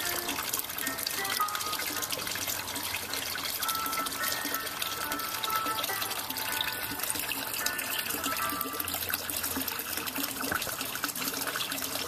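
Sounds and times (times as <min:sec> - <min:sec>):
water trickling into a pond: 0:00.0 - 0:12.0.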